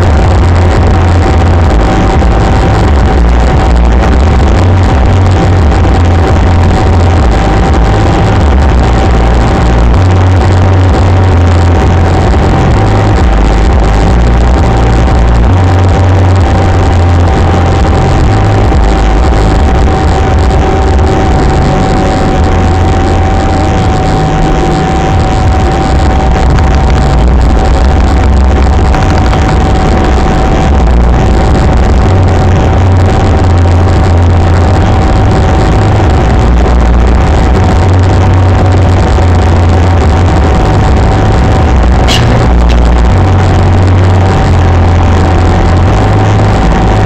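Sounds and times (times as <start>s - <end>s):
car engine and tyre rumble: 0.0s - 47.0s
high whine: 0.0s - 47.0s.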